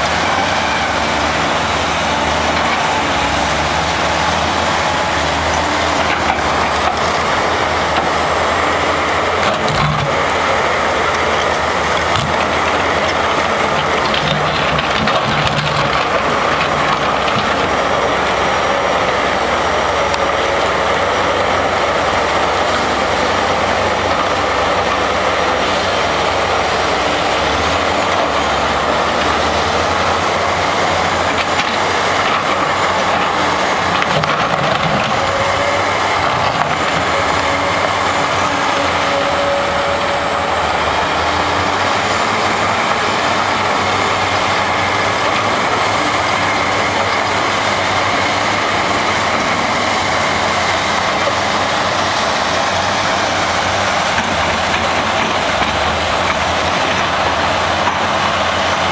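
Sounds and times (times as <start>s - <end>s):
excavator running: 0.0s - 58.9s.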